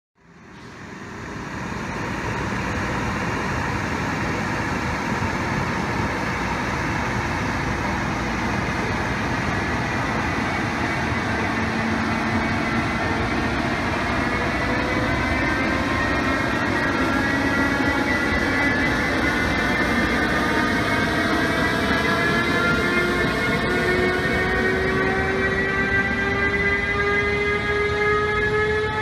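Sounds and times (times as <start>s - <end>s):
freight train rolling rush: 0.2s - 29.0s.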